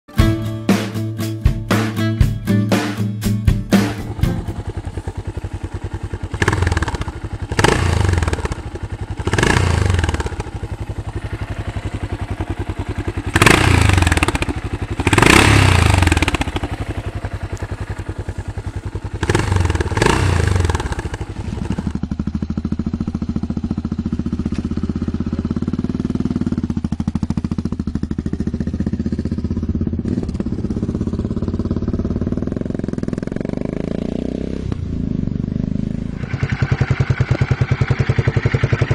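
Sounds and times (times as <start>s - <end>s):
motorcycle engine idling and revving: 0.2s - 38.9s
motorcycle riding along road: 3.7s - 38.9s.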